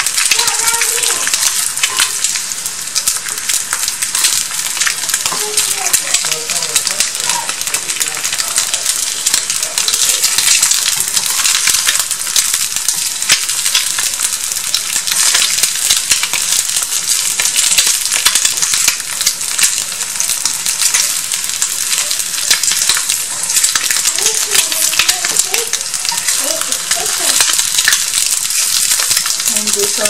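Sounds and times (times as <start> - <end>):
egg sizzling in hot oil: 0.0 - 30.0
oil crackling and spitting: 0.0 - 30.0.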